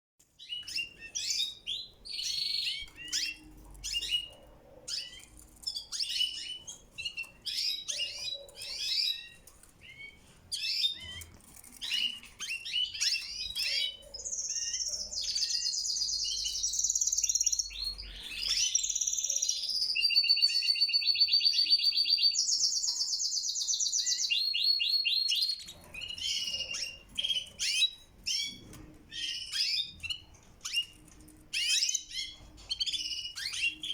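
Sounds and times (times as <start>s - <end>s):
canaries chirping: 0.2s - 33.9s
canary song of fast trills: 0.2s - 33.9s.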